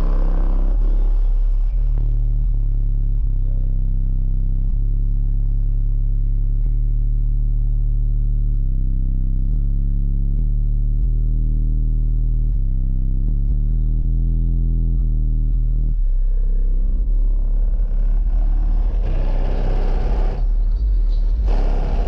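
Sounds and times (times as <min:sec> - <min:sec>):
deep bass from subwoofers: 0:00.0 - 0:22.0.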